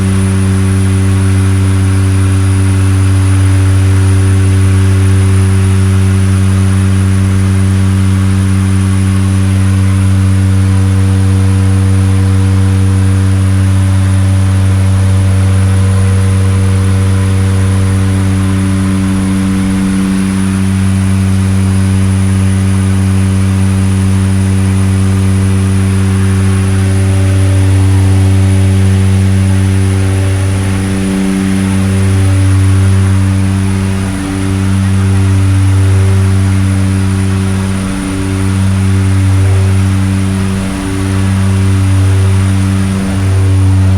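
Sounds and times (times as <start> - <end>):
propeller engines droning: 0.0 - 43.9.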